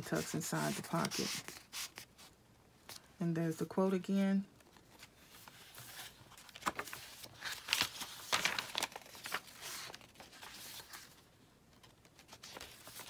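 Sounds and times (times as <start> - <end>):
paper pages rustling: 0.0 - 2.3, 4.6 - 13.0.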